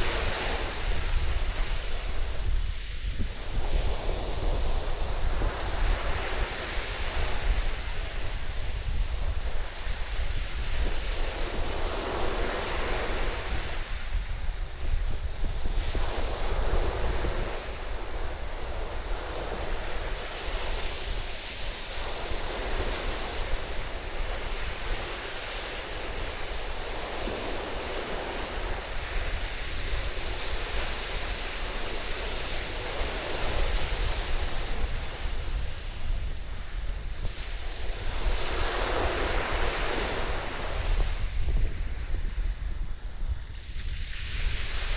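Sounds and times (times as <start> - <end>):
surf breaking on sand: 0.0 - 44.9
wind buffeting microphone: 0.0 - 44.9.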